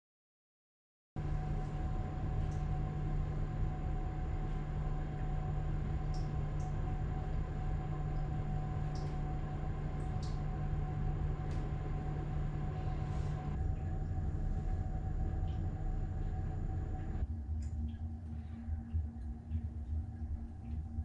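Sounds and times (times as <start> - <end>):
pottery wheel motor hum: 1.2 - 21.0.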